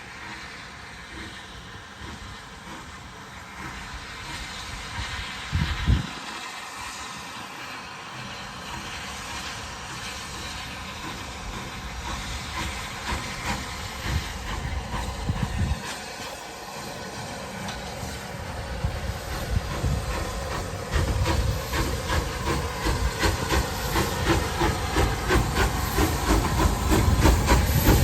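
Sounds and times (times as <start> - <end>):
model train motor and wheels hiss: 0.0 - 28.0
rail clicks: 0.0 - 28.0.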